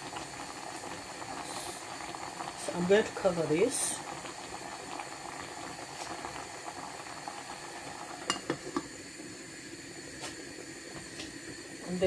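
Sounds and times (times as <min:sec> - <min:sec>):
food hissing on stove: 0:00.0 - 0:12.0.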